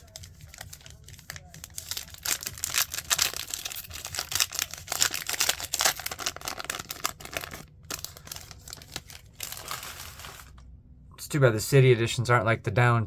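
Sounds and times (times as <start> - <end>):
cards and packaging rustling: 0.0 - 10.6.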